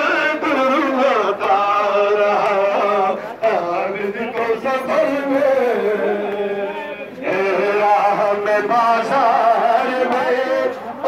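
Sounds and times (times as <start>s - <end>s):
crowd of men chanting a lament: 0.0s - 11.0s.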